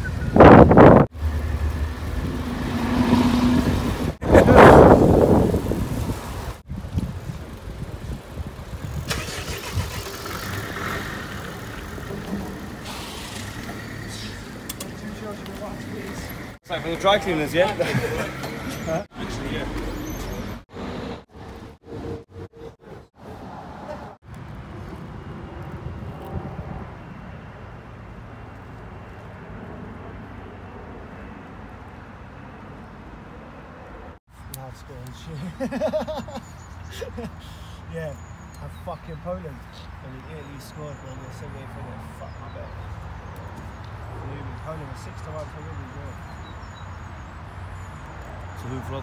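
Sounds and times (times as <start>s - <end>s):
low traffic rumble: 0.0s - 49.0s.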